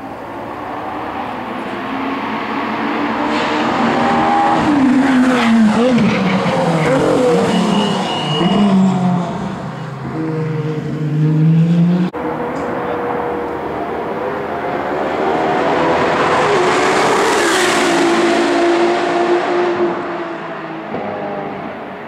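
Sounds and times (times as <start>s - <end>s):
race car passing at speed: 0.2s - 22.0s.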